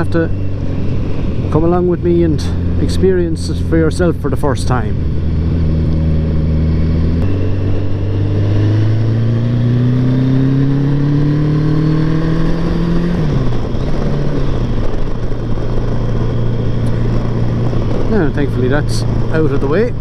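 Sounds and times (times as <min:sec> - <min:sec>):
motorcycle engine under throttle: 0:00.0 - 0:20.0
road and wind noise: 0:00.0 - 0:20.0.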